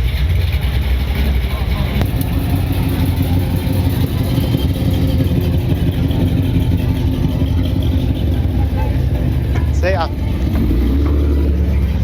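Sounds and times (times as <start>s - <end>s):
car engine exhaust rumble: 0.0s - 12.0s.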